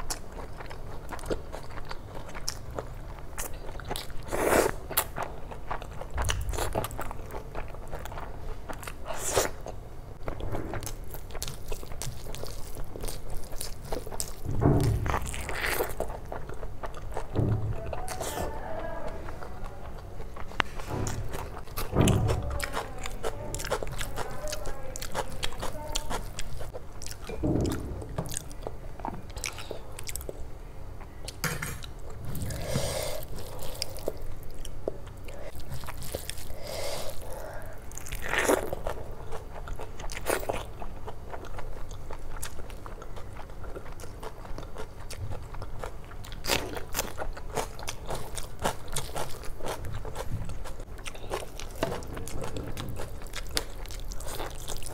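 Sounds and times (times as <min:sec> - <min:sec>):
chewing with wet mouth smacks: 0:00.0 - 0:18.4, 0:19.3 - 0:30.4, 0:33.2 - 0:54.9.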